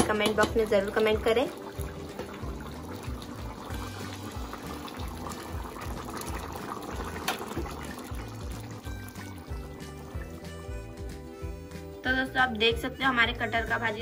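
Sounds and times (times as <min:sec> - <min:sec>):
curry bubbling in a pan: 0:00.0 - 0:11.4.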